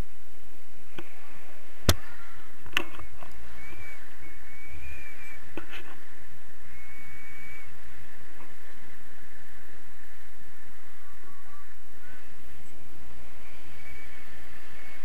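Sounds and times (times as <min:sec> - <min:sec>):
wind rushing over microphone: 0:00.0 - 0:15.0
faint thin whistling tones: 0:00.8 - 0:15.0.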